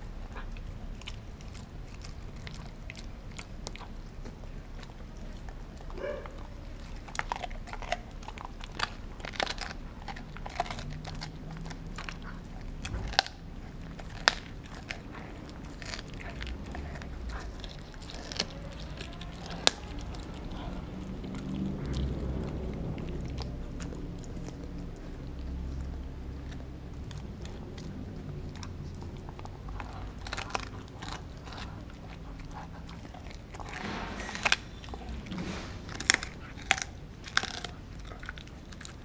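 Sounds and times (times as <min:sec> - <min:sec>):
dog chewing frozen meat: 0:00.0 - 0:39.0.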